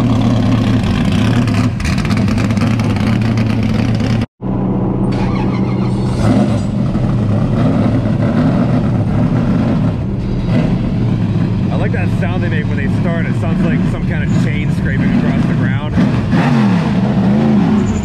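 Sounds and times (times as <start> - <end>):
car engine running at low speed: 0.0 - 18.0.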